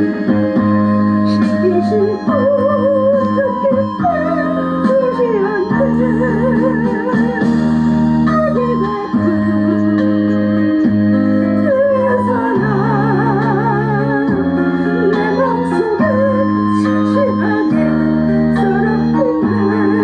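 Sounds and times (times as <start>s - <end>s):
held keyboard chords: 0.0s - 20.0s
vibrato melody line: 0.0s - 20.0s.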